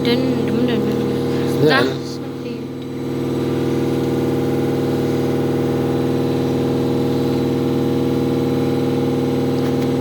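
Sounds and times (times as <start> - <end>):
steady motor hum: 0.0 - 10.0.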